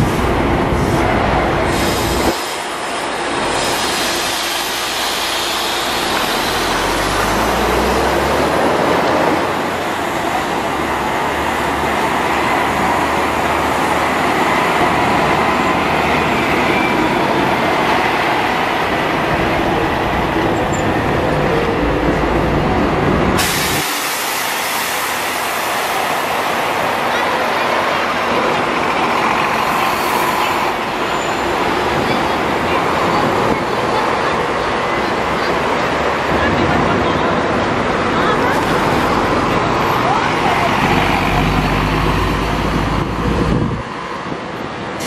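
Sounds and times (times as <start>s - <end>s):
coach diesel engines driving past: 0.0s - 45.0s
street noise: 0.0s - 45.0s.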